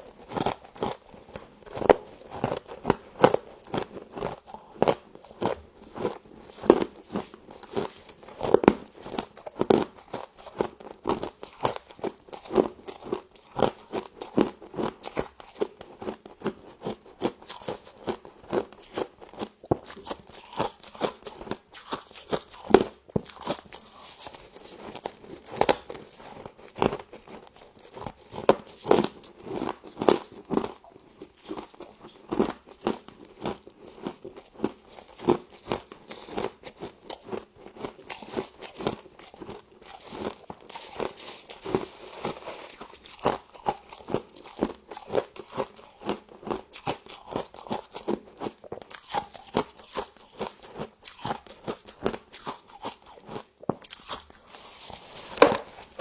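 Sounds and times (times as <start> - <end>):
frost crunching being chewed: 0.0 - 56.0.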